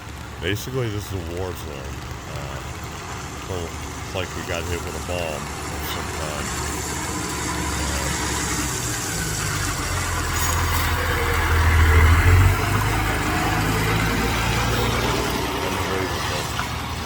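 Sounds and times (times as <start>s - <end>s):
fire truck engine running: 0.0s - 17.0s.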